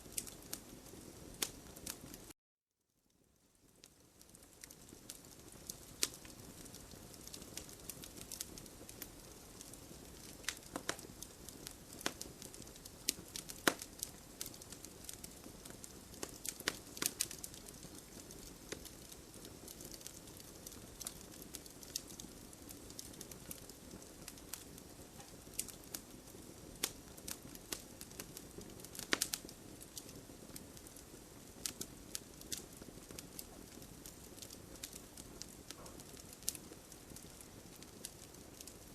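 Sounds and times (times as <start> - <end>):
wood fire crackling: 0.0 - 2.3, 3.2 - 38.9.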